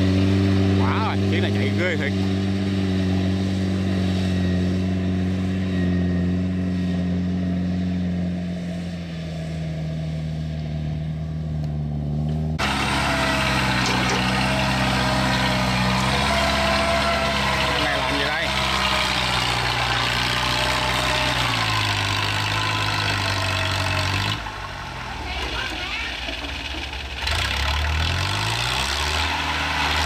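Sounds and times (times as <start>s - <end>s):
diesel engine running: 0.0s - 30.0s
rough cart engine: 0.0s - 30.0s.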